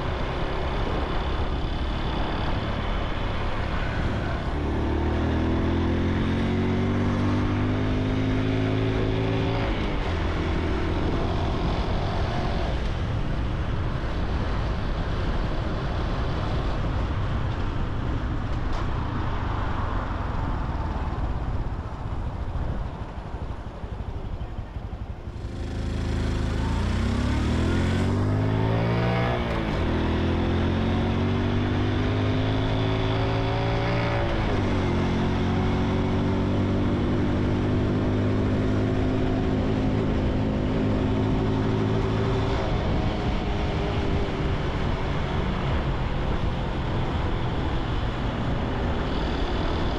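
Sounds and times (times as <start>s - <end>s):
motorcycle engine and exhaust: 0.0s - 49.9s
rushing wind: 0.0s - 49.9s.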